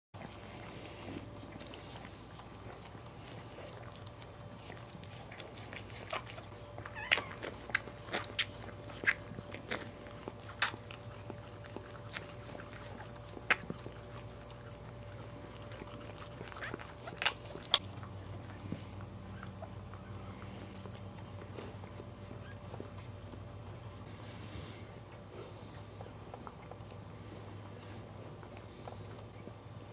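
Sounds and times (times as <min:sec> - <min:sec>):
dog licking puppy: 0:00.2 - 0:24.4, 0:25.0 - 0:29.9
faint steady hum: 0:00.2 - 0:29.9.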